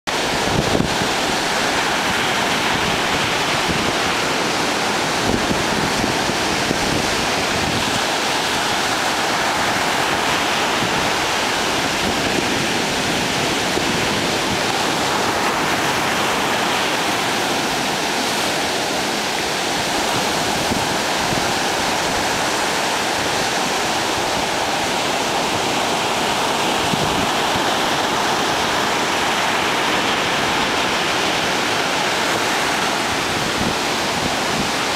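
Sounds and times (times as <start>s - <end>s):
surf breaking on a beach: 0.1s - 34.9s.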